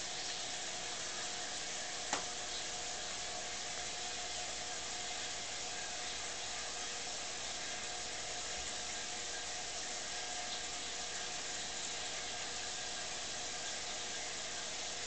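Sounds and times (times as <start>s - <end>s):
faint steady hum: 0.0s - 15.0s
steady hiss of aquarium equipment: 0.0s - 15.0s.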